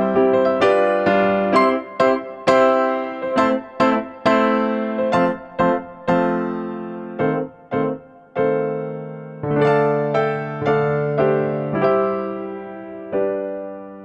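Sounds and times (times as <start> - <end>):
piano-like keyboard music: 0.0 - 14.0.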